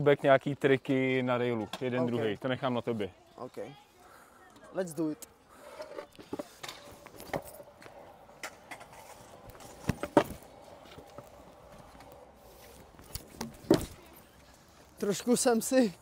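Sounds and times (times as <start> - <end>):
scooter wheels rolling on concrete: 0.2 - 16.0.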